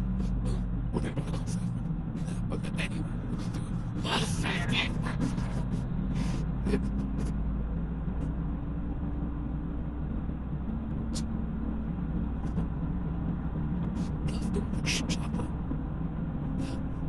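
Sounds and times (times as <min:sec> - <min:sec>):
car engine hum: 0:00.0 - 0:17.0
road rumble: 0:00.0 - 0:17.0.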